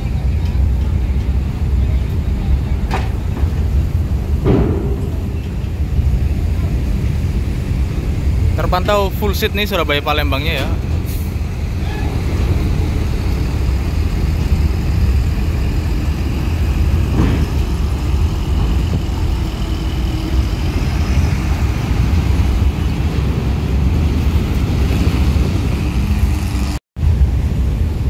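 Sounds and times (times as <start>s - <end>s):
bus diesel engine rumbling: 0.0s - 28.0s.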